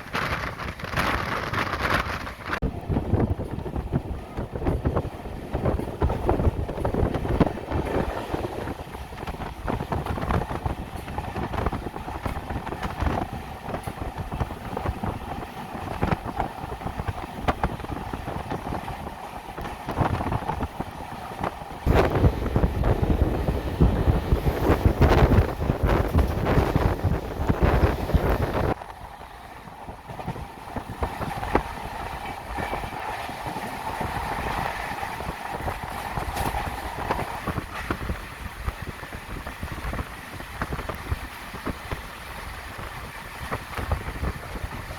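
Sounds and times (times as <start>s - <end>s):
train wheels rumbling on rails: 0.0s - 44.9s
wind buffeting microphone: 0.0s - 44.9s.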